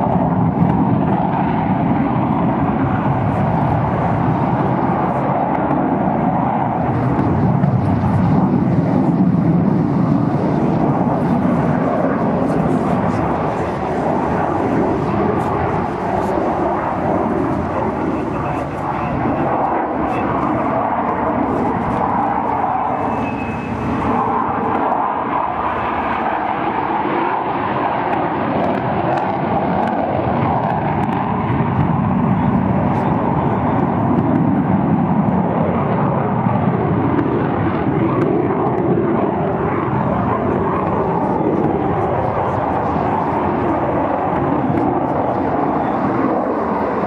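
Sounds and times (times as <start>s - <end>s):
jet aircraft flying past: 0.0s - 47.0s.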